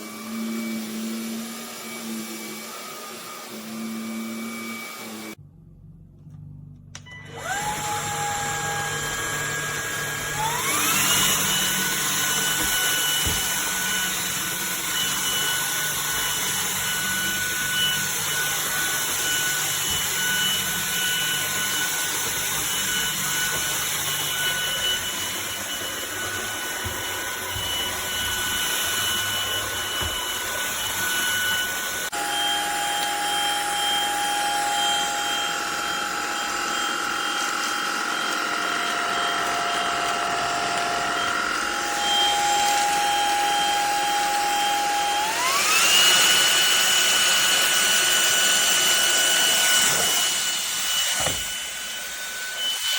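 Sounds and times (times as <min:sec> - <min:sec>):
vacuum cleaner motor whine: 0:00.0 - 0:05.4, 0:06.3 - 0:52.9.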